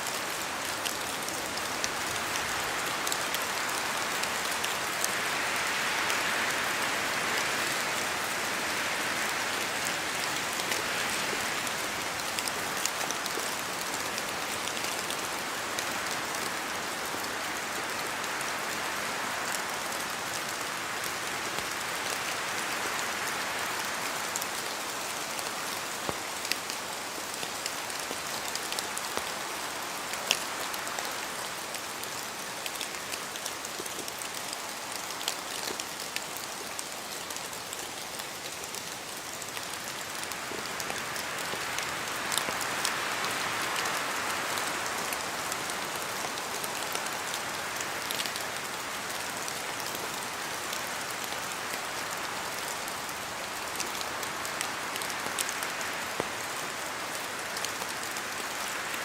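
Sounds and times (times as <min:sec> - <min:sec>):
rain falling through leaves: 0:00.0 - 0:59.0.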